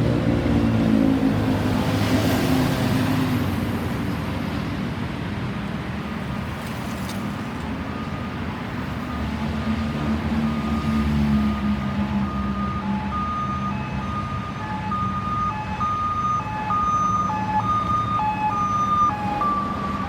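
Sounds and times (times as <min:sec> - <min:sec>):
passing vehicles: 0:00.0 - 0:20.0.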